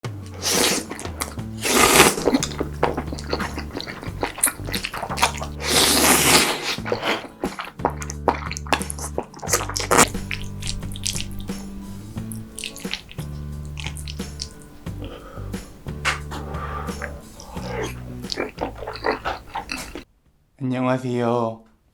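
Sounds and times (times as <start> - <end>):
background music with bass notes: 0.0 - 20.0
wet squishing eating sounds: 0.1 - 20.1
loud slurping: 0.2 - 20.0.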